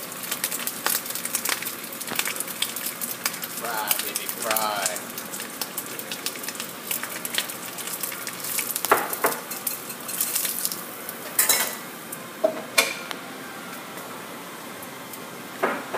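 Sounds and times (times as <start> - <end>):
bacon sizzling in a frying pan: 0.0 - 15.9.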